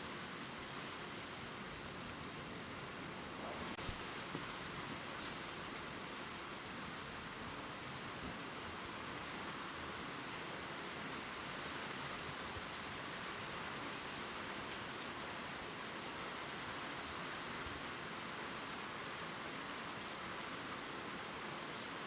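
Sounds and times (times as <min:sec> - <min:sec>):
gentle rain on leaves: 0:00.0 - 0:22.0.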